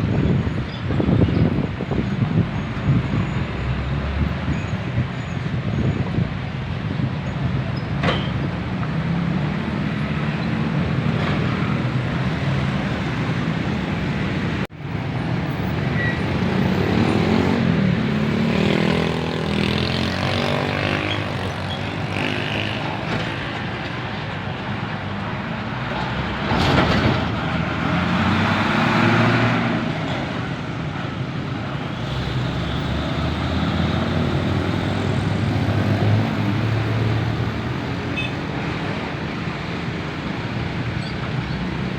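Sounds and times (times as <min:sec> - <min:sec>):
heavy trucks driving past: 0:00.0 - 0:41.9.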